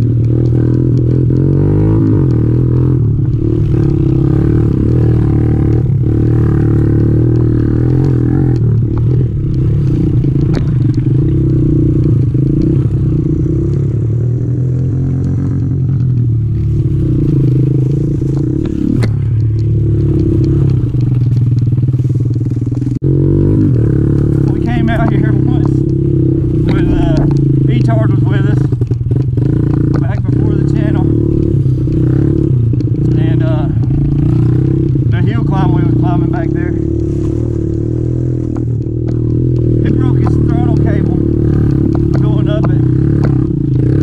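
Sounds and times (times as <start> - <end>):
motorbike engine running: 0.0 - 44.0.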